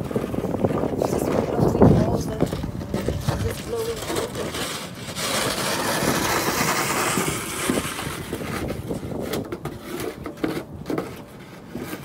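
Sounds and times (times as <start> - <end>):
snow shovel scraping snow: 0.0 - 12.0.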